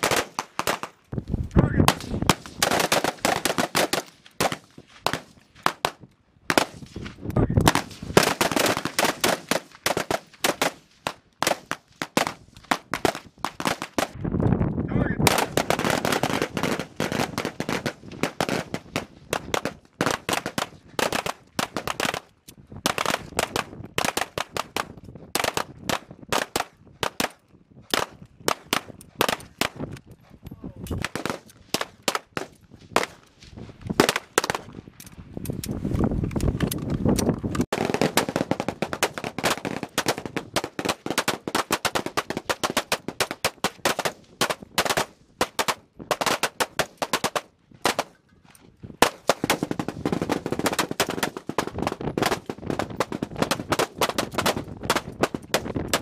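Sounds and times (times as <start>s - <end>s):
small-arms gunfire: 0.0s - 1.0s, 1.9s - 6.9s, 7.6s - 14.2s, 15.2s - 30.0s, 31.0s - 33.2s, 37.7s - 48.1s, 49.0s - 56.0s.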